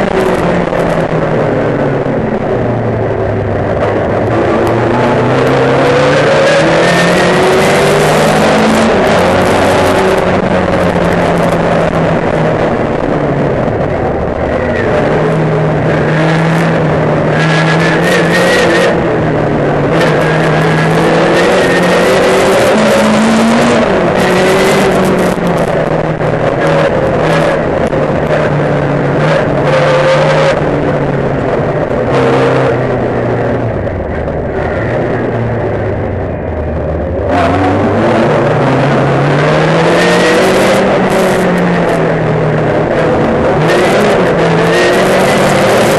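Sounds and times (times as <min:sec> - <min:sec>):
racing car engine revving: 0:00.0 - 0:45.9.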